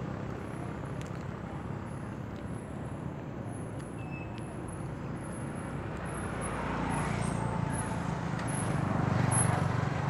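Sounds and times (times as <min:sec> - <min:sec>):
outdoor rumble and hiss: 0:00.0 - 0:10.0.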